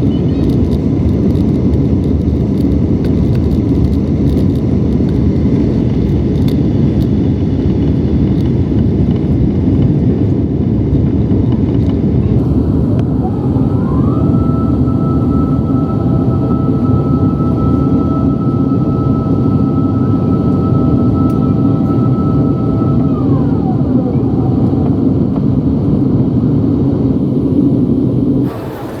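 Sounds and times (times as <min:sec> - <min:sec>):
jet engines at takeoff thrust: 0:00.0 - 0:29.0
rising whine: 0:00.0 - 0:29.0
runway rumble: 0:00.0 - 0:29.0.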